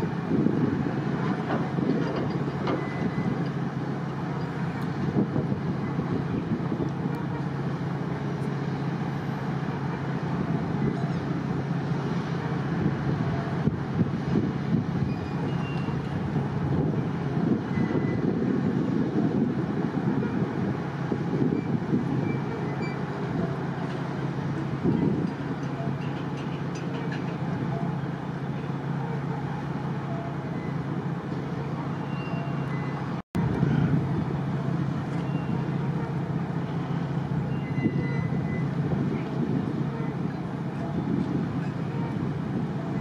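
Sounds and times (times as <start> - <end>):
diesel engine droning hum: 0.0 - 43.0.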